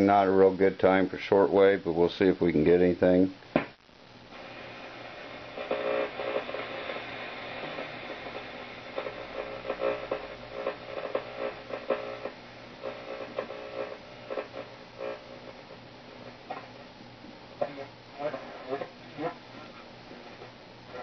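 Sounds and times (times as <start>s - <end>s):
shortwave radio static: 0.0s - 21.0s.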